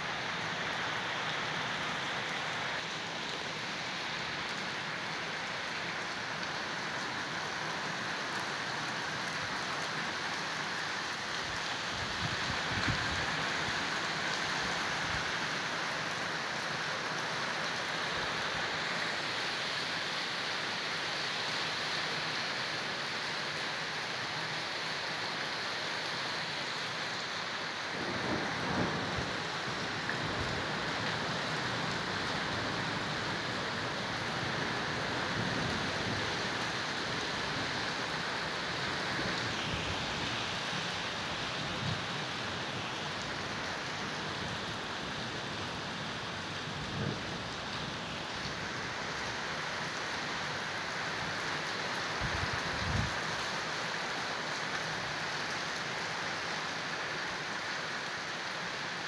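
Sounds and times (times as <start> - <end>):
heavy rain on wet concrete: 0.0 - 59.0.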